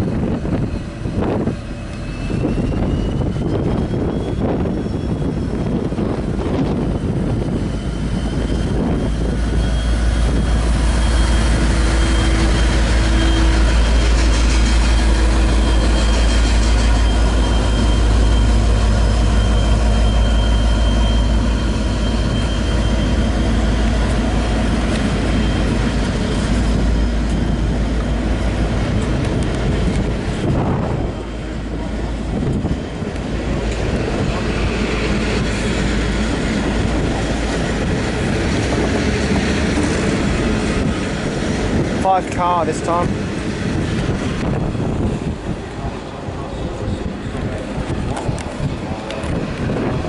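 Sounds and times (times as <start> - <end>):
diesel locomotive engine running: 0.0 - 50.0
train carriages rolling on rails: 0.0 - 50.0.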